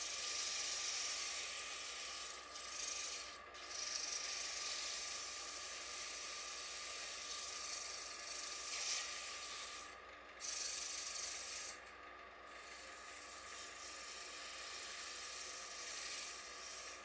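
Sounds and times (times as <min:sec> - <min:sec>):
sandpaper scraping wood: 0:00.0 - 0:11.8, 0:12.5 - 0:17.0
wood lathe running: 0:00.0 - 0:17.0.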